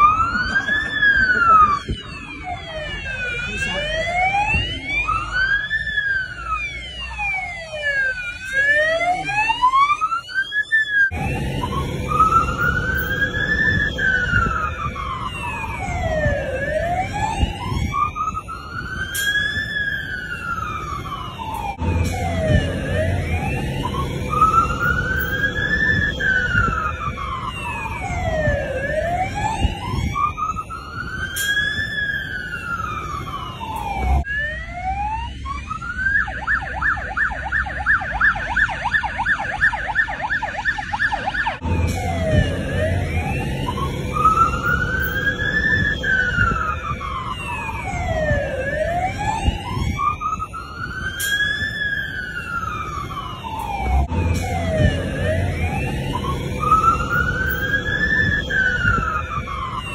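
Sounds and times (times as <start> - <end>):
fire engine siren wailing: 0.0 - 59.9.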